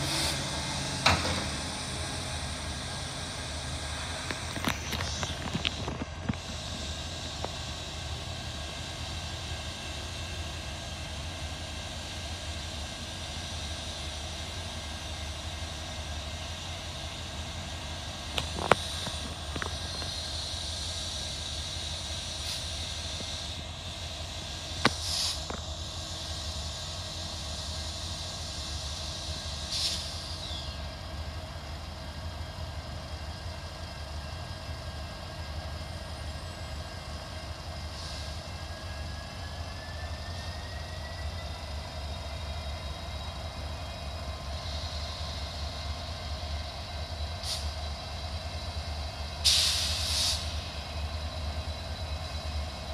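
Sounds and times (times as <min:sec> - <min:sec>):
distant locomotive rumble: 0:00.0 - 0:52.9.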